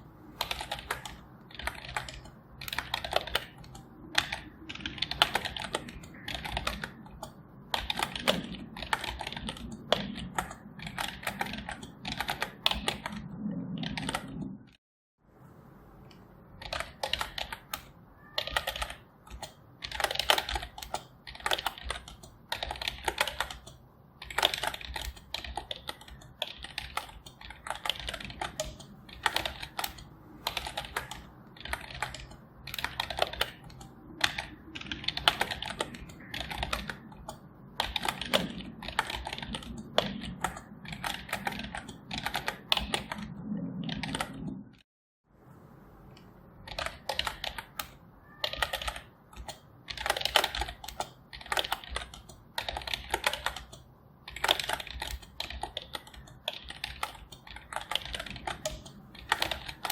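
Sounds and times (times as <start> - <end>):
typing on computer keyboard: 0.2 - 14.6, 16.6 - 44.6, 46.6 - 59.9.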